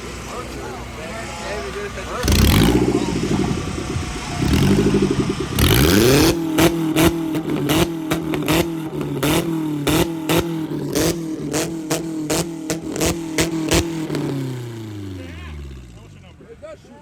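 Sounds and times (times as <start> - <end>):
car engine revving against limiter: 0.0 - 16.4.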